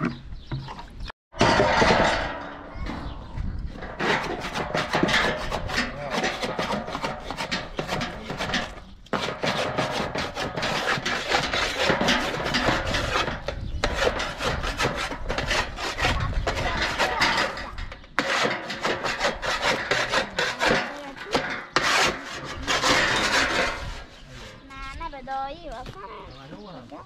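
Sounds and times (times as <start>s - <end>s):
spatula scraping metal griddle: 1.4s - 24.7s.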